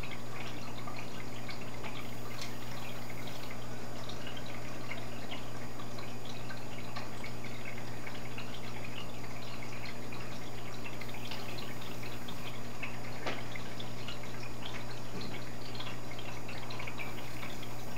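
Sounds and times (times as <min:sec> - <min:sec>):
filter low hum: 0:00.0 - 0:17.9
water trickling into tank: 0:00.0 - 0:17.9.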